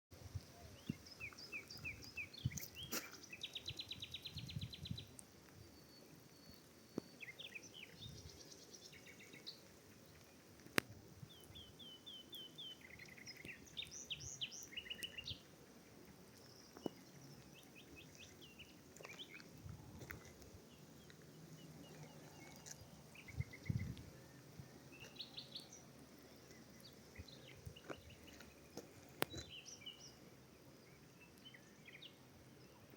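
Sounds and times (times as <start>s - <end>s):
songbirds chirping and trilling: 0.2s - 32.9s.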